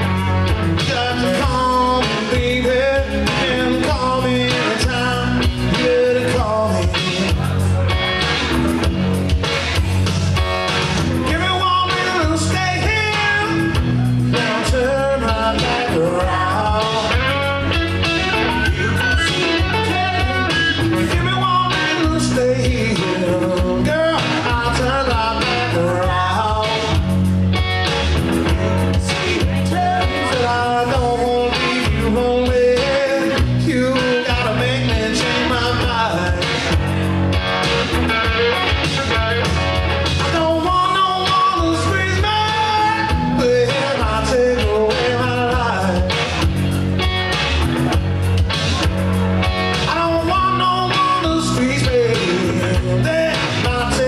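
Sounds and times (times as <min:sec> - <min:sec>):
man singing: 0:00.0 - 0:08.8, 0:11.0 - 0:37.8, 0:38.5 - 0:46.8, 0:49.7 - 0:54.0
electric guitar: 0:00.0 - 0:54.0.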